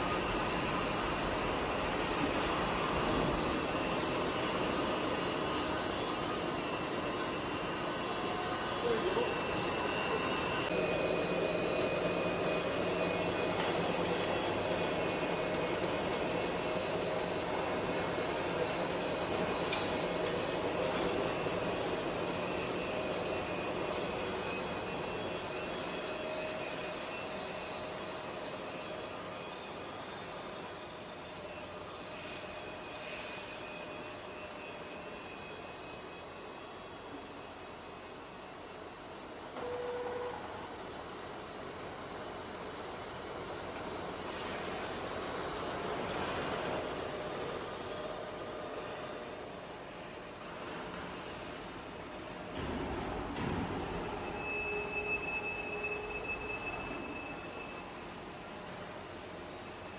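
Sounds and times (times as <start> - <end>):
machine tool whining: 0.0 - 41.0, 44.1 - 59.9.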